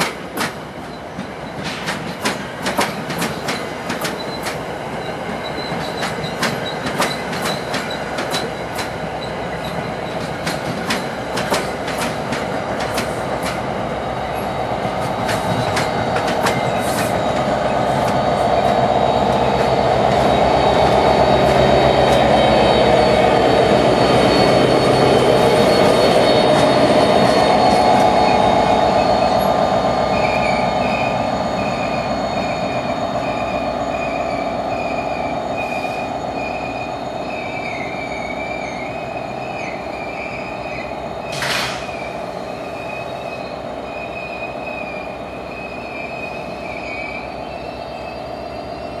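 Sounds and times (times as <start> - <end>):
train running noise: 0.0 - 49.0
train brakes squealing: 0.7 - 49.0.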